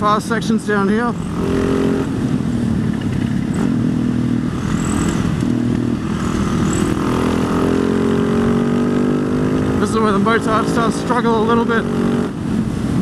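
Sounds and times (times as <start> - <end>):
rushing wind noise: 0.0 - 13.0
motorcycle engine accelerating: 1.1 - 12.6.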